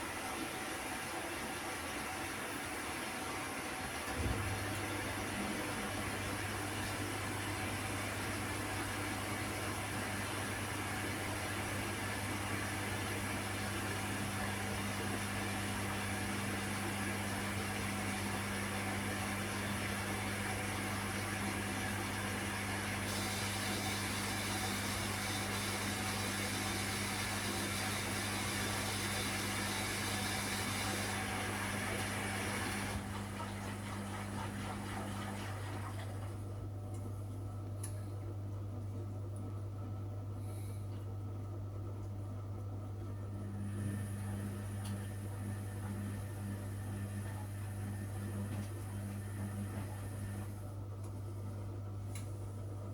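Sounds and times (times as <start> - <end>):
washing machine spinning: 0.0 - 40.4, 41.1 - 52.9.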